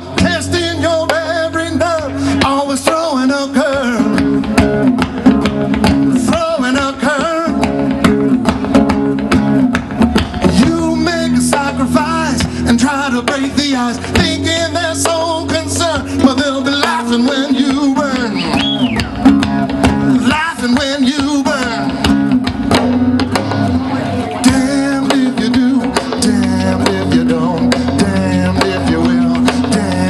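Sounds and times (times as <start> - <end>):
man singing: 0.0 - 5.1, 5.8 - 8.4, 10.2 - 22.8, 23.9 - 30.0
acoustic guitar: 0.0 - 30.0.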